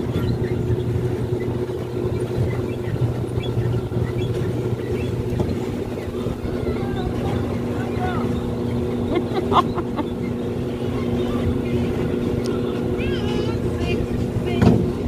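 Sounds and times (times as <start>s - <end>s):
ride car motor humming: 0.0s - 15.0s.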